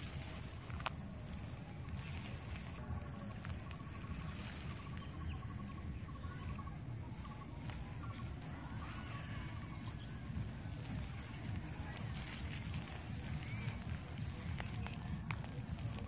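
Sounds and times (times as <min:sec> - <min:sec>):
high insect trill: 0:00.0 - 0:16.0
wind rumbling on microphone: 0:00.0 - 0:16.0.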